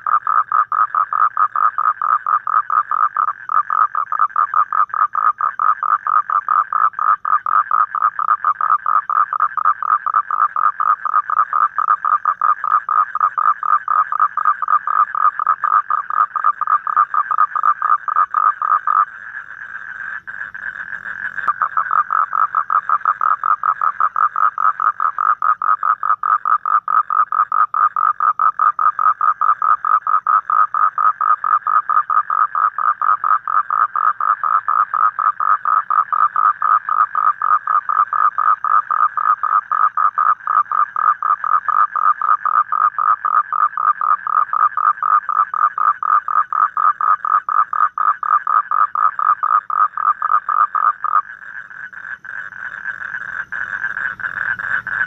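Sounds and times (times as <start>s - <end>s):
toad trilling: 0.0s - 55.0s.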